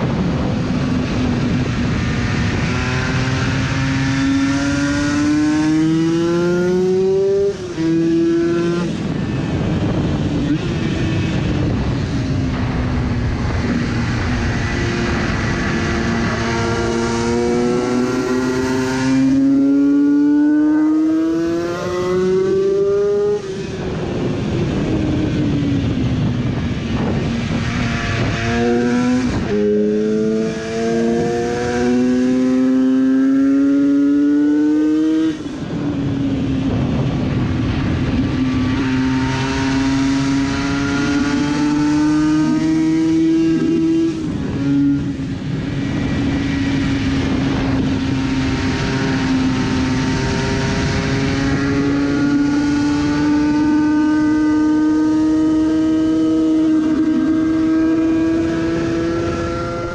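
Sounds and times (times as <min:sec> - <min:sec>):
racing motorcycle engine revving: 0:00.0 - 0:59.9
wind rushing over microphone: 0:00.0 - 0:59.9.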